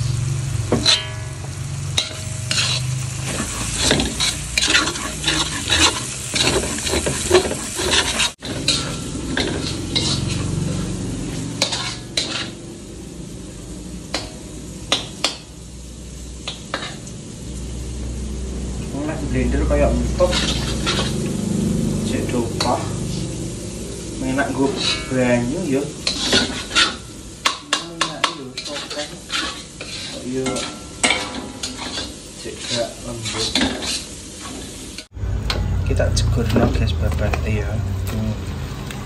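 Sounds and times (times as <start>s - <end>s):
metal spatula scraping wok: 0.0s - 37.6s
oil sizzling: 0.0s - 39.0s.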